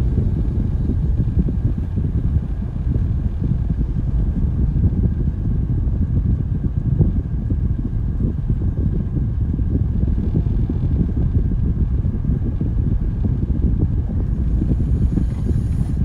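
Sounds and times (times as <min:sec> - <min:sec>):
vehicle rumble on road: 0:00.0 - 0:16.0
wind buffeting microphone: 0:00.0 - 0:16.0.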